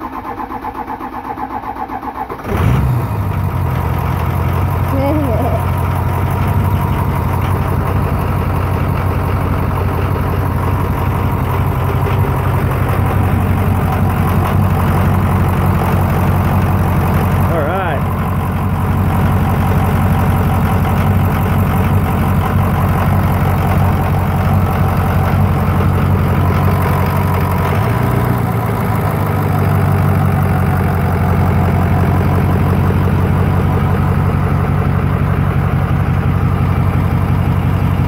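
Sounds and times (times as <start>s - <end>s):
diesel engine idling: 0.0s - 38.0s.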